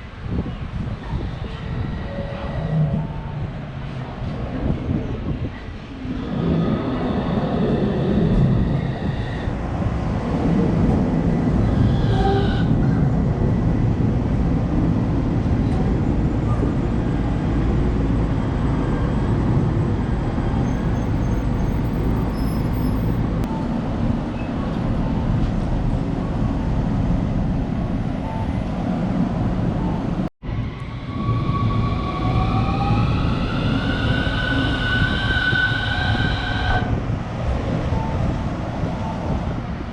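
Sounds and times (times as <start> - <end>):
electric train rumbling: 0.0 - 39.9.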